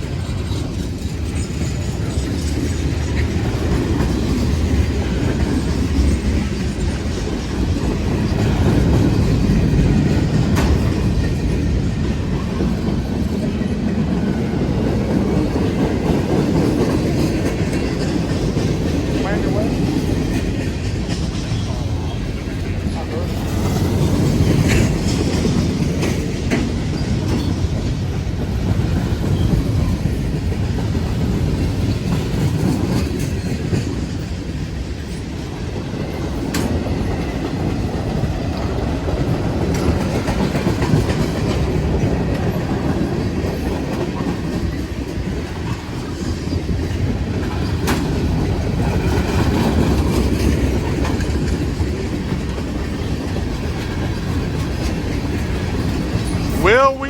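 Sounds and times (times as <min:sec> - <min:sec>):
train wheels rumbling and clacking: 0:00.0 - 0:57.0.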